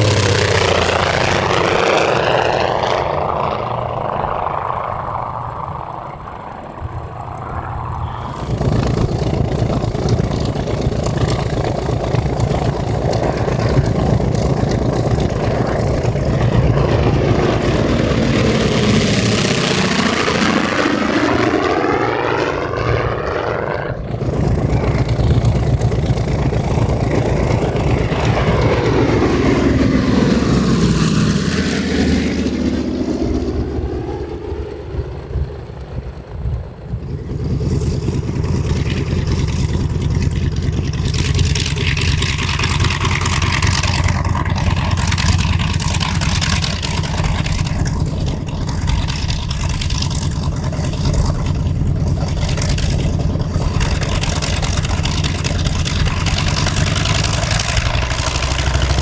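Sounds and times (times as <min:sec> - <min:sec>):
propeller plane droning past: 0:00.0 - 0:59.0.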